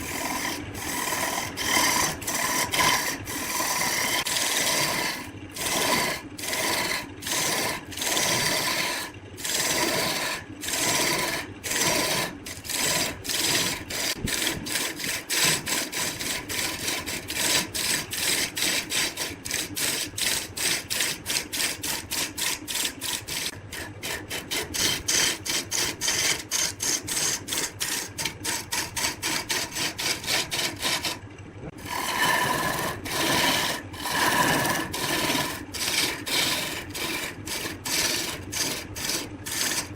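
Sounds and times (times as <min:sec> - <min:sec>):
hand tool rasping on wood: 0:00.0 - 0:31.2, 0:31.8 - 0:39.9.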